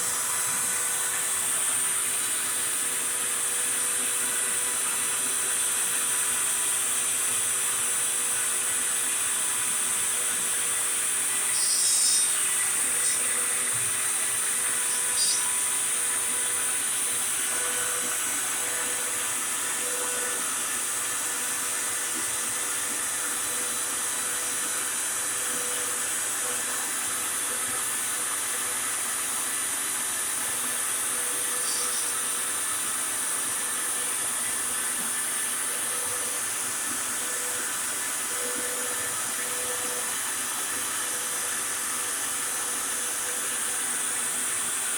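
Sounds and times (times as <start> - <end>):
router spindle carving wood: 0.0 - 44.9.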